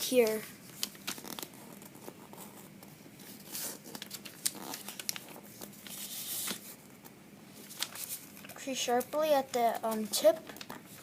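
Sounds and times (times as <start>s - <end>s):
paper crinkling and rustling: 0.1s - 6.8s, 7.5s - 11.0s.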